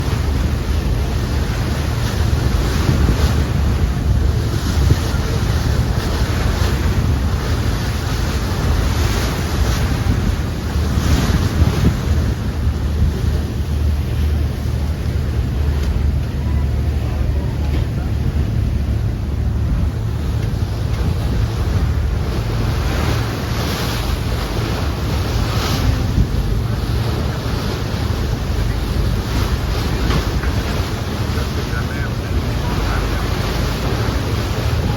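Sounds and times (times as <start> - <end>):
water rushing past boat: 0.0 - 34.9
wind buffeting microphone: 0.0 - 34.9.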